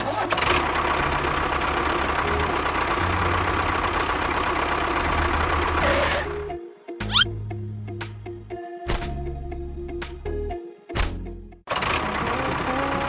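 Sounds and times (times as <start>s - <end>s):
background music: 1.0s - 13.0s.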